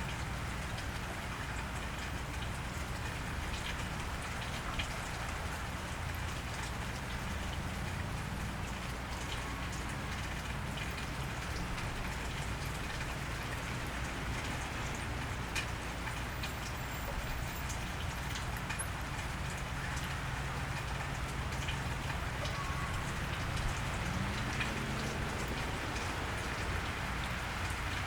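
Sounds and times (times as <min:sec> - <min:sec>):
rain falling on pavement: 0:00.0 - 0:28.0.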